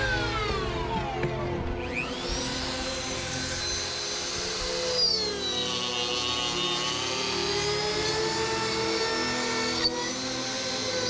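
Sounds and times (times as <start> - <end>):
rotary tool grinding wood: 0.0 - 11.0.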